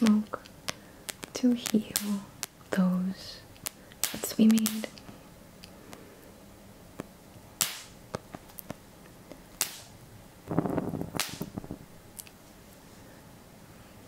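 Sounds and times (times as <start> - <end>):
burning wood snapping and popping: 0.0 - 6.0, 7.0 - 12.4.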